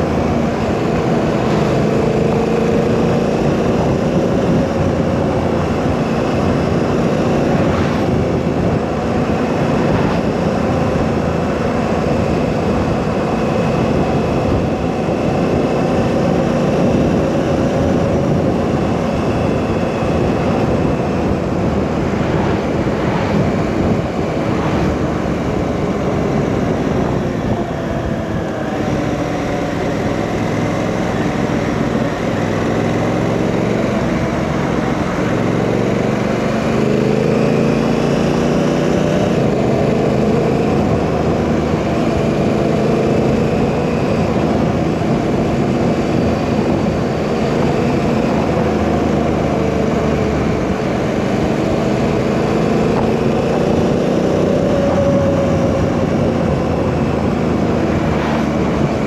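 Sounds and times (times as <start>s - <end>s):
motorcycle engine running: 0.0s - 59.0s
wind rush over microphone: 0.0s - 59.0s.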